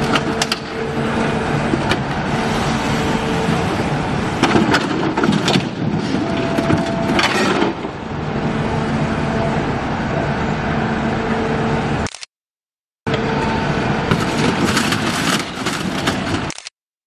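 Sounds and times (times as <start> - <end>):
heavy machine humming: 0.0 - 12.1, 13.1 - 16.4.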